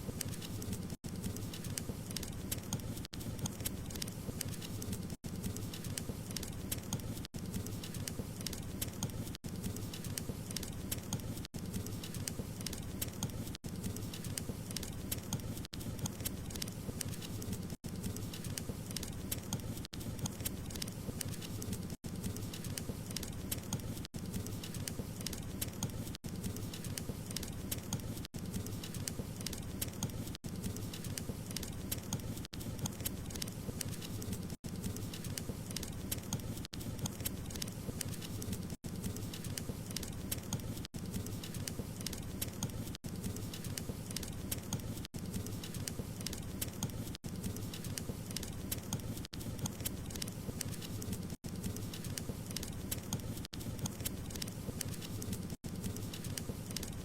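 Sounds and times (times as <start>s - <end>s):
fire crackles and pops: 0.0s - 57.0s.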